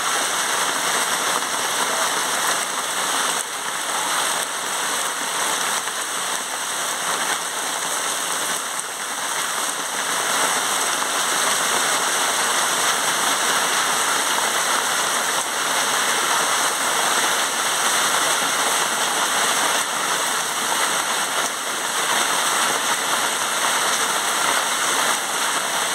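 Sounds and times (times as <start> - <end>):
heavy rain on water: 0.0 - 25.9.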